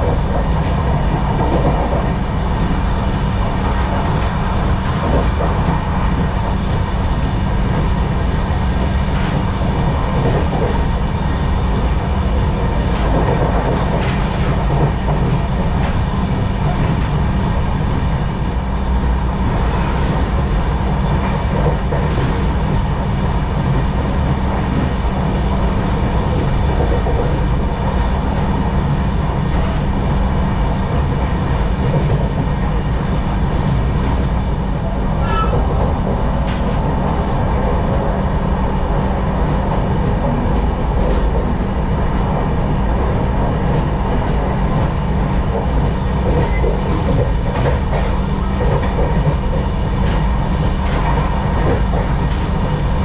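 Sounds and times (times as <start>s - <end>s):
train rumbling inside coach: 0.0s - 53.0s.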